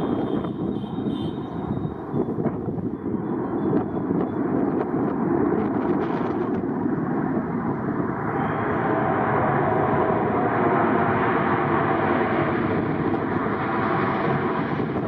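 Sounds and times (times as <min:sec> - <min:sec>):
jet engines at take-off: 0:00.0 - 0:15.0.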